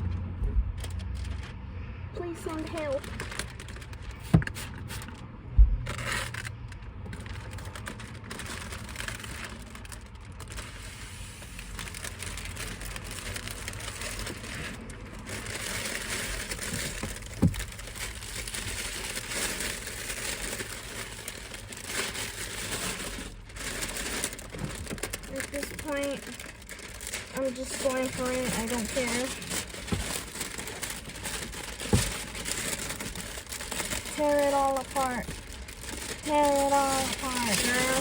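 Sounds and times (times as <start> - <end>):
plastic film crinkling: 0.7 - 1.6, 2.2 - 38.0.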